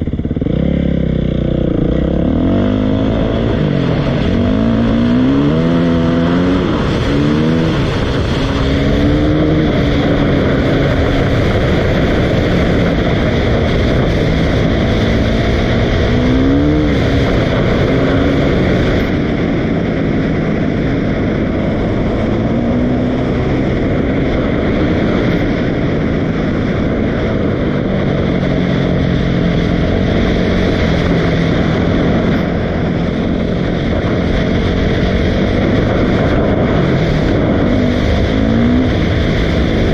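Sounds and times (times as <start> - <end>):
dirt bike engine revving: 0.0 - 19.2, 20.3 - 39.9.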